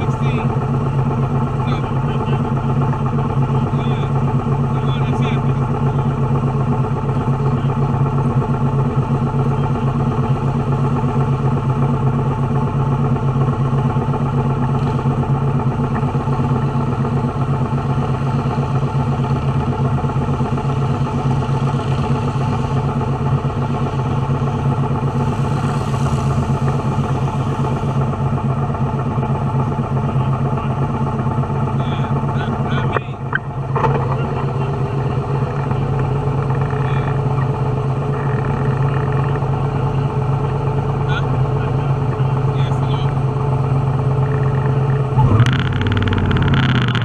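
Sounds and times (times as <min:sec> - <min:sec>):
motorcycle engines idling: 0:00.0 - 0:47.0.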